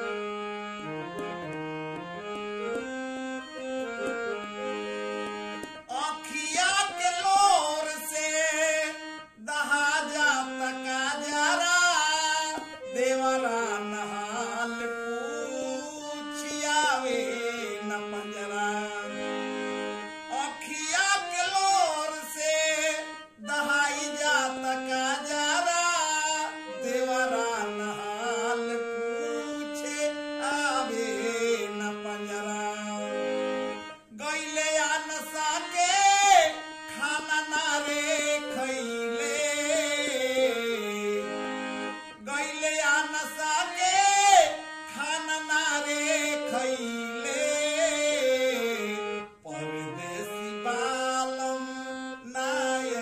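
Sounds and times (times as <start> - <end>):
harmonium: 0.0 - 53.0
man singing folk song: 5.9 - 19.2, 20.3 - 33.2, 34.1 - 41.3, 42.2 - 53.0.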